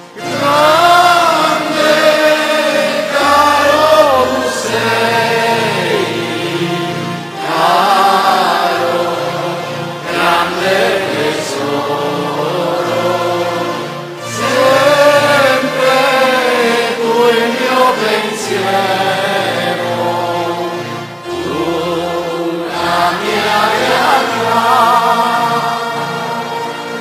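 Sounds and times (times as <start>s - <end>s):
congregation singing a hymn: 0.0s - 27.0s
low instrumental accompaniment: 0.0s - 27.0s.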